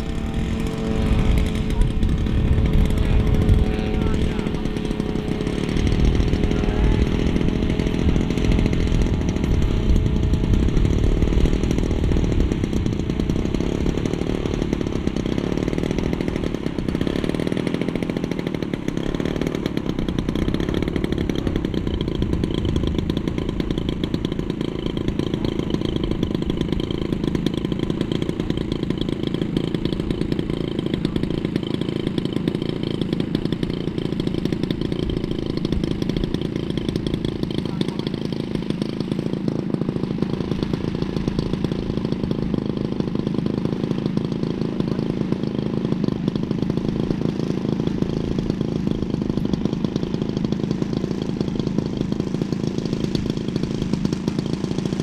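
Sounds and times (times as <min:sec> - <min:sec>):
model plane engine running: 0:00.0 - 0:55.0.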